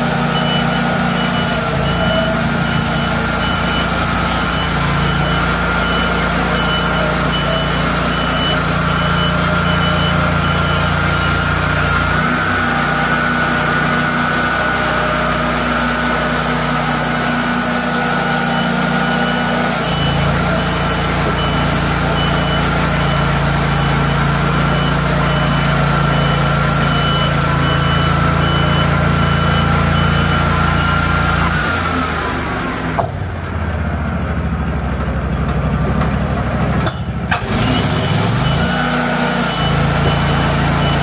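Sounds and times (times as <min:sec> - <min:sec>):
short high beeps: 0:00.0 - 0:33.1, 0:37.6 - 0:41.0
sawmill engine hum: 0:00.0 - 0:41.0.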